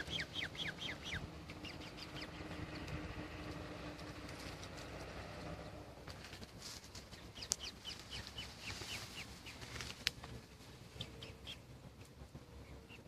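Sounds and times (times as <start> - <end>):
bird chirping: 0.0 - 4.7, 7.0 - 13.0.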